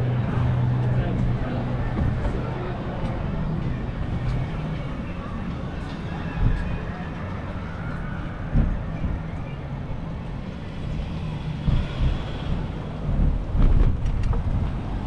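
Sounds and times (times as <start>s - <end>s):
cars and trucks passing: 0.0s - 15.0s
low traffic rumble: 0.0s - 15.0s.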